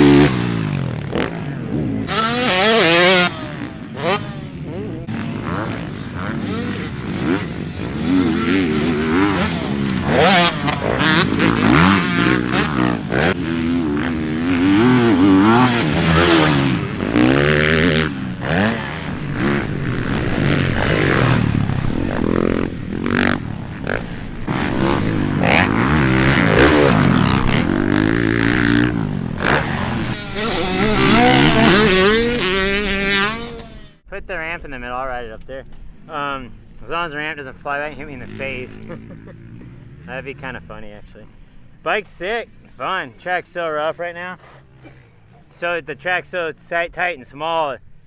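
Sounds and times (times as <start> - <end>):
motocross bike engine revving: 0.0 - 34.0, 37.1 - 41.9.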